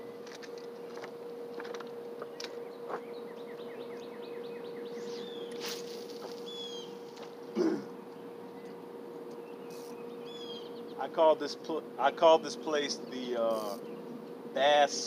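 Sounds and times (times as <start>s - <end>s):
steady low hum: 0.0s - 15.0s
songbird singing: 2.1s - 14.9s.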